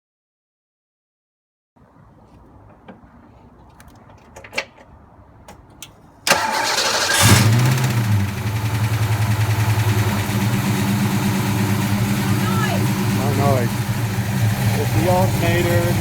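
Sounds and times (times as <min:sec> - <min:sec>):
car engine starting and idling: 0:01.8 - 0:16.0.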